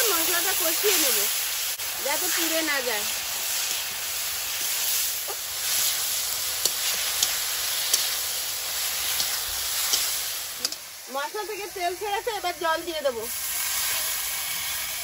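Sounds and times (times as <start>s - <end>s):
masala sizzling in hot oil: 0.0s - 15.0s.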